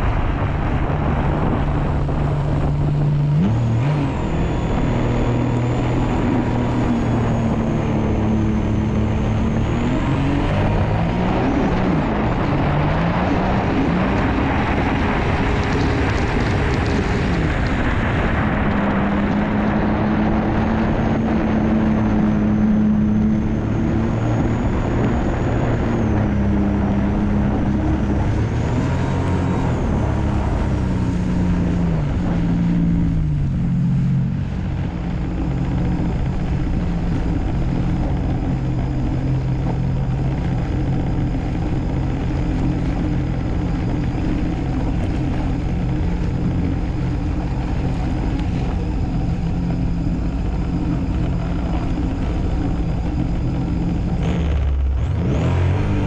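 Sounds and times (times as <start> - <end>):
watercraft engine running: 0.0 - 56.0.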